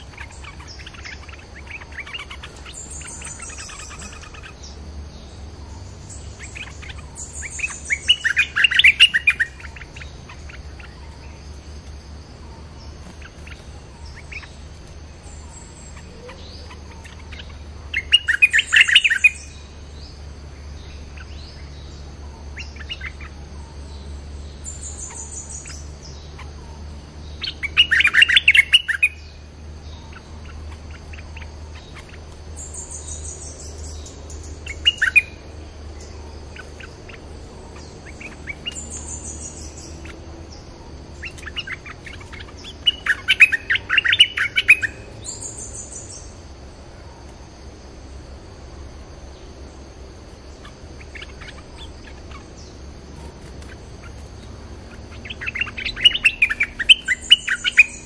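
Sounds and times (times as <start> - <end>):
bulbuls chattering calls: 0.0 - 47.5, 50.2 - 58.0.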